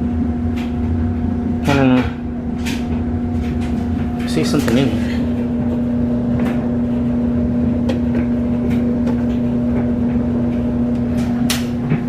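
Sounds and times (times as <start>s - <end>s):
clothes dryer humming: 0.0s - 12.0s.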